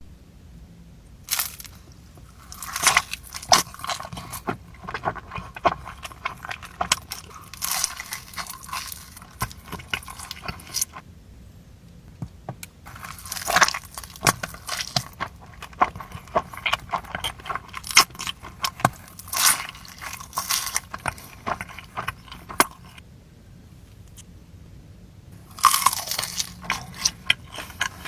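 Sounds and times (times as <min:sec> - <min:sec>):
person chewing crunchy food: 0:01.3 - 0:11.0, 0:12.2 - 0:23.0, 0:25.4 - 0:28.0.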